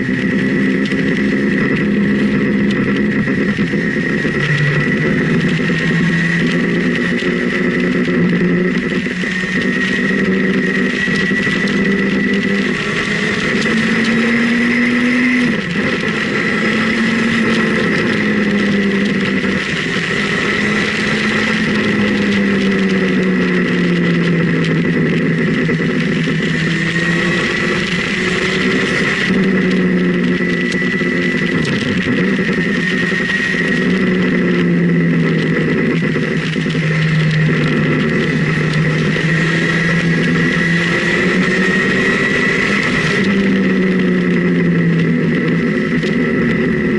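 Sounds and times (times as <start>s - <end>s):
motorcycle engine running: 0.0s - 46.9s
steady high whine: 0.0s - 46.9s
wind and road noise: 0.0s - 46.9s.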